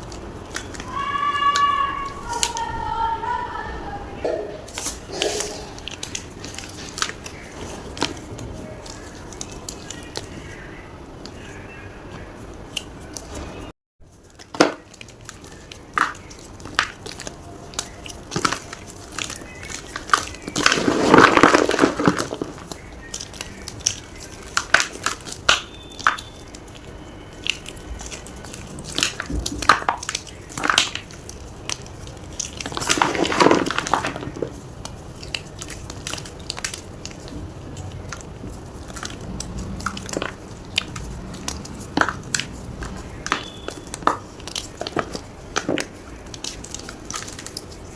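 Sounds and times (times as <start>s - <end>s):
chalk block crunching: 4.7s - 10.6s, 14.1s - 47.9s.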